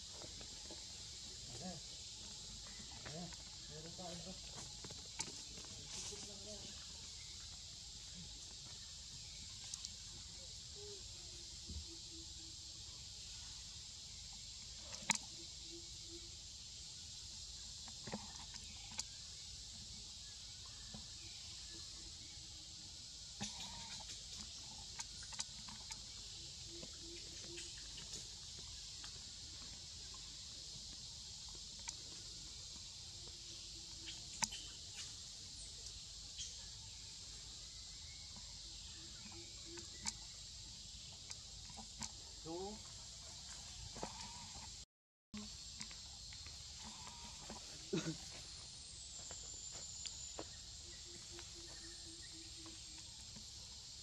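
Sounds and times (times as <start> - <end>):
high-pitched insect drone: 0.0 - 44.8, 45.4 - 54.0.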